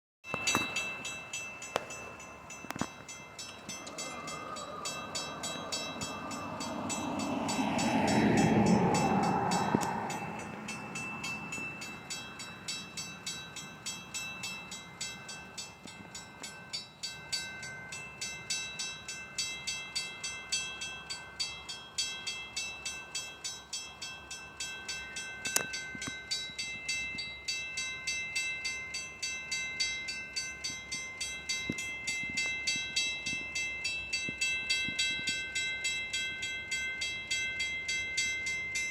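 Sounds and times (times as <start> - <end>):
train rumbling past: 0.4 - 38.9.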